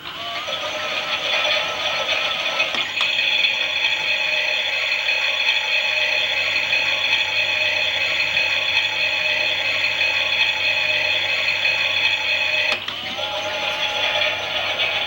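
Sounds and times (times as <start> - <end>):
toy washing machine motor whirring: 0.0 - 15.0.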